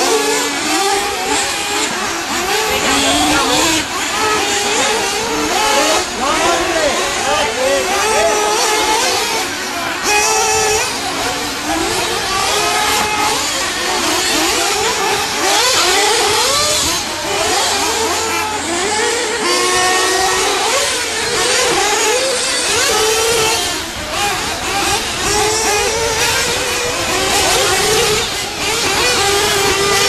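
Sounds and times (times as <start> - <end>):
small nitro engines buzzing: 0.0 - 30.0.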